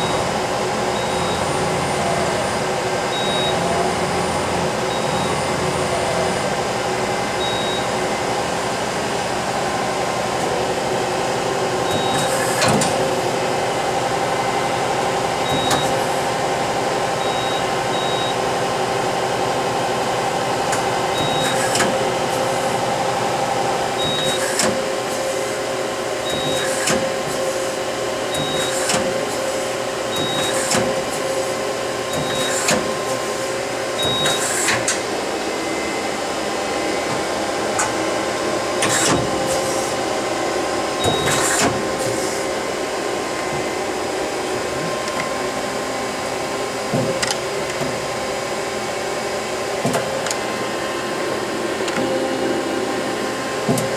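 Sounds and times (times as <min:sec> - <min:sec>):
steady machine hum: 0:00.0 - 0:53.9.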